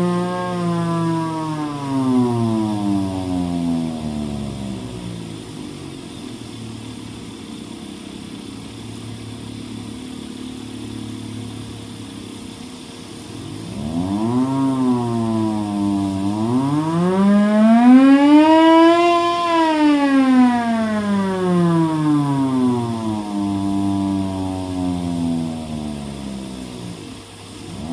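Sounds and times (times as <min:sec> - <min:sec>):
blower low drone: 0:00.0 - 0:27.9.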